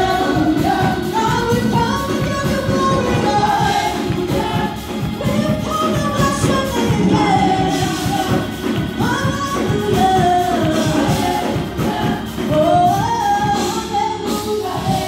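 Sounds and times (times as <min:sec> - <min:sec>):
band with drums: 0:00.0 - 0:15.0
gospel choir singing: 0:00.0 - 0:15.0
woman singing lead: 0:00.0 - 0:15.0.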